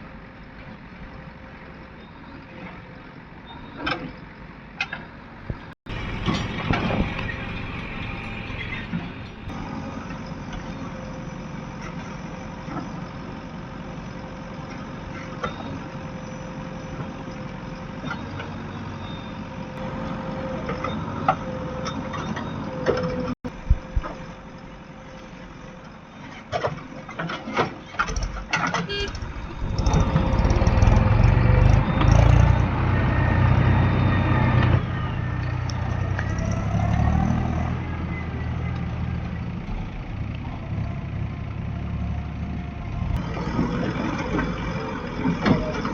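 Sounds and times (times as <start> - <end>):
diesel machinery engine: 0.0 - 45.9.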